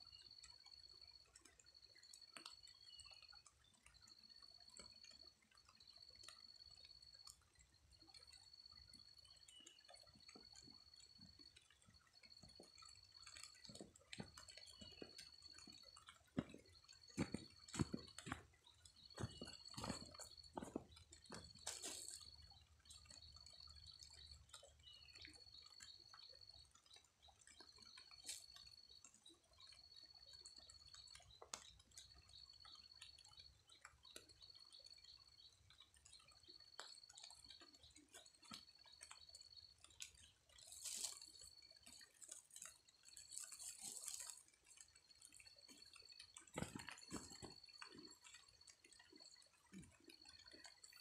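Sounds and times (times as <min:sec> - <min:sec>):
rain drips and taps: 0:00.0 - 0:51.0.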